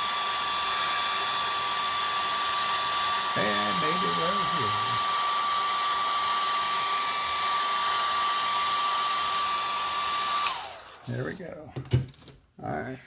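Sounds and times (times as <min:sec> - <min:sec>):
hair dryer whining: 0:00.0 - 0:11.1.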